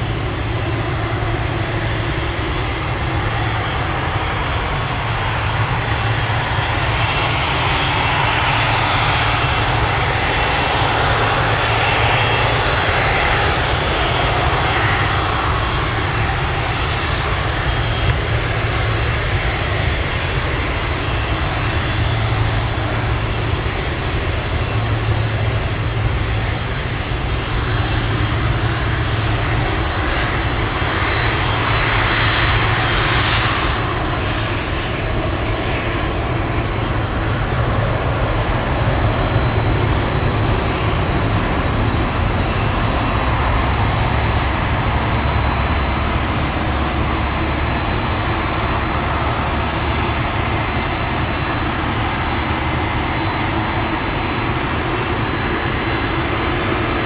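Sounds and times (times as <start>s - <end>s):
high engine whine: 0.0s - 57.0s
jet engines rumbling: 0.0s - 57.0s.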